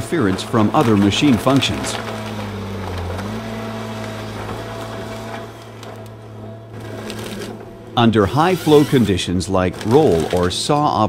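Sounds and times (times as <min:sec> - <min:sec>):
harvester engine humming: 0:00.0 - 0:11.0.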